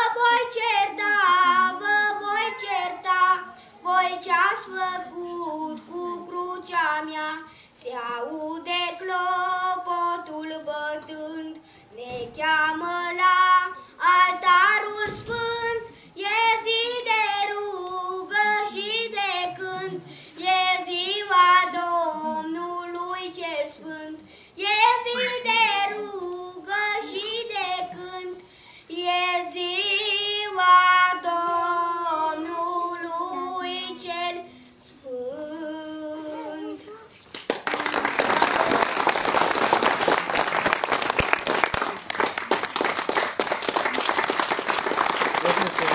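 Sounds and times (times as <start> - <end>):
boy singing: 0.0 - 37.2.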